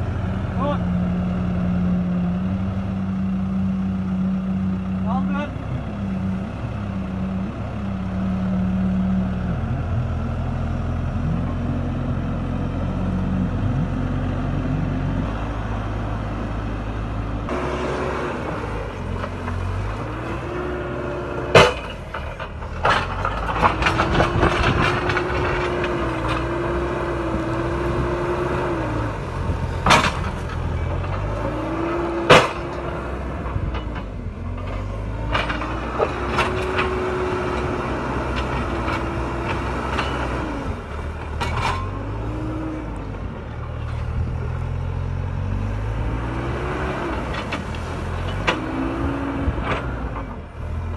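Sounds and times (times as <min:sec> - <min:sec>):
heavy vehicle engine running: 0:00.0 - 0:50.9.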